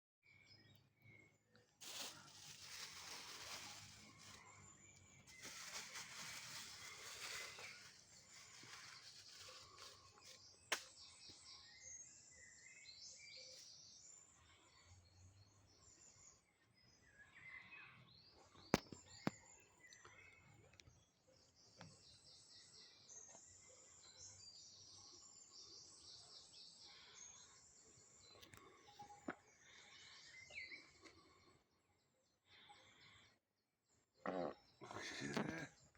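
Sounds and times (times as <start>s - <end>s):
birds chirping and singing: 2.0s - 31.7s.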